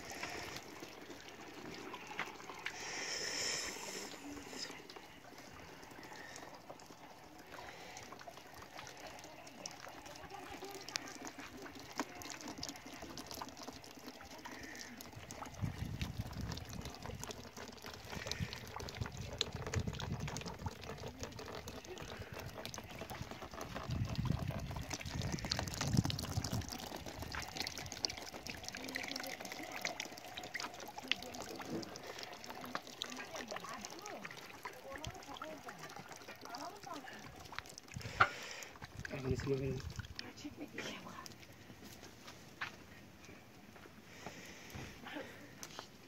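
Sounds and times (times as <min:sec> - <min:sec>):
fine dripping: 0:00.0 - 0:46.0
juice pouring into a plastic basin: 0:00.0 - 0:46.0.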